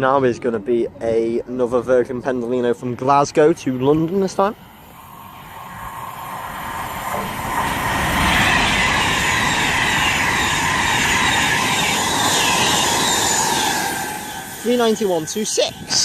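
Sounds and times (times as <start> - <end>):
electric train passing at speed: 1.5 - 16.0.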